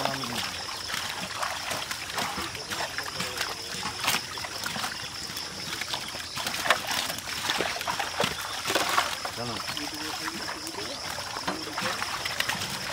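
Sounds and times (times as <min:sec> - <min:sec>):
fish thrashing in a net: 0:00.0 - 0:12.9
water splashing and sloshing: 0:00.0 - 0:12.9.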